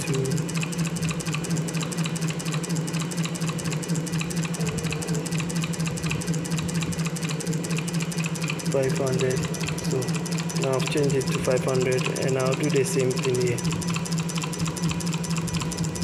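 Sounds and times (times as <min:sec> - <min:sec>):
light regular ticks: 0:00.0 - 0:16.0
low machine hum: 0:00.0 - 0:16.0.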